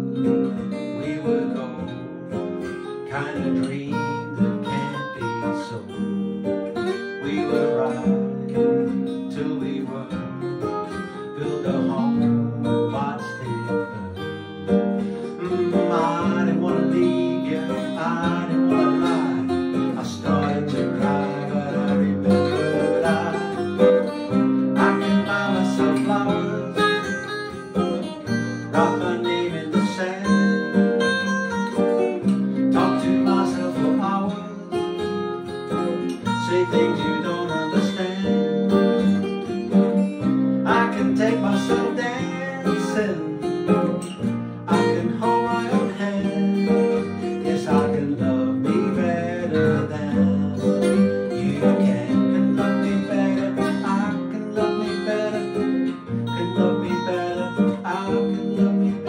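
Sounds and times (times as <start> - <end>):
acoustic guitars strummed: 0.0 - 59.0
man singing pop song: 0.7 - 14.4, 15.1 - 59.0.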